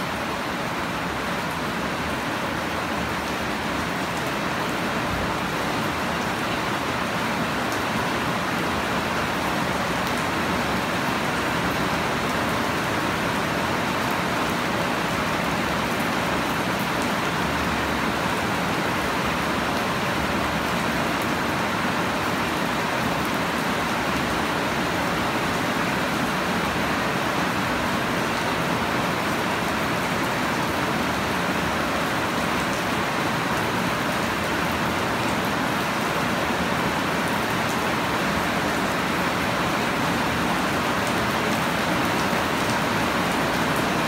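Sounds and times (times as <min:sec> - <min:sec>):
heavy rain on plants and soil: 0:00.0 - 0:44.0.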